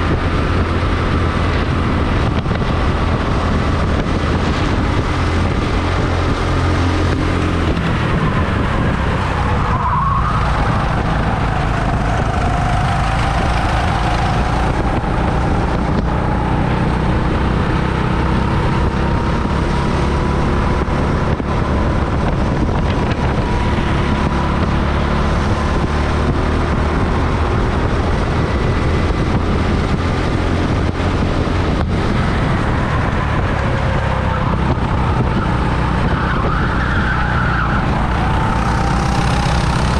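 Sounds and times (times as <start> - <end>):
go-kart motor rumble and whine: 0.0 - 39.9.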